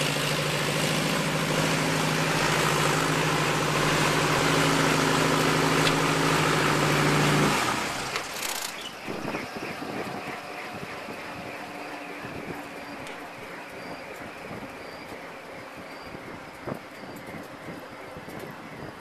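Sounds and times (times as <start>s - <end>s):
helicopter engine idling: 0.0s - 19.0s
rotors whooshing: 0.0s - 19.0s
wind: 0.0s - 19.0s.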